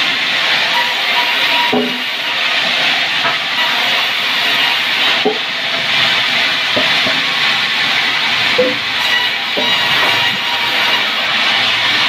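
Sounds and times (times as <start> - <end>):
saw cutting timber hissing: 0.0 - 12.0.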